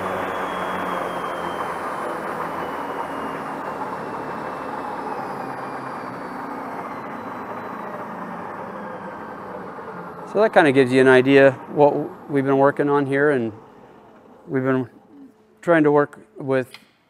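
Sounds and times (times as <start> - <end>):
electric motor whine slowing: 0.0 - 16.2.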